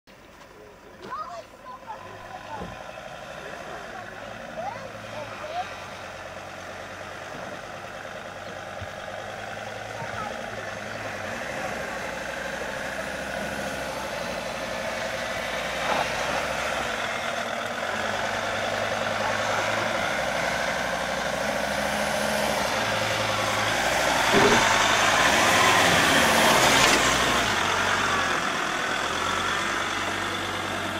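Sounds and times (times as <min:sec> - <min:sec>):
suv engine running: 0:00.1 - 0:30.9.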